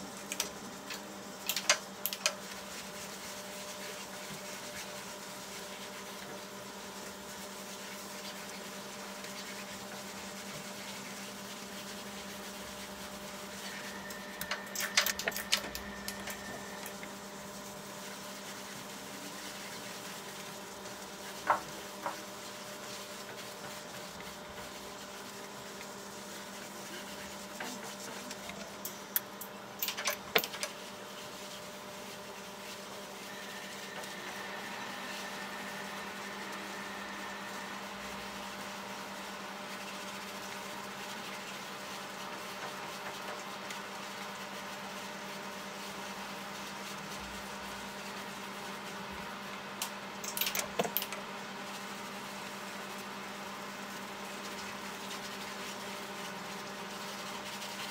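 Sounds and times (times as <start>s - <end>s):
electrical hum: 0.0s - 57.9s.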